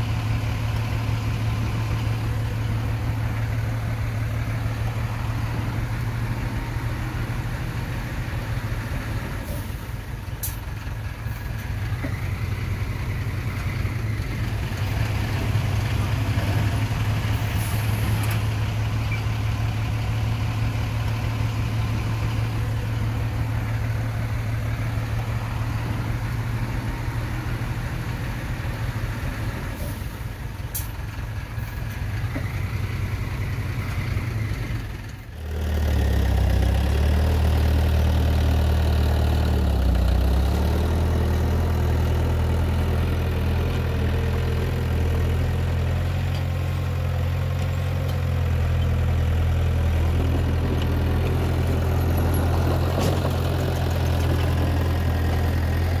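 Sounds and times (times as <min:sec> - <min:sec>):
heavy diesel machinery droning: 0:00.0 - 0:56.0.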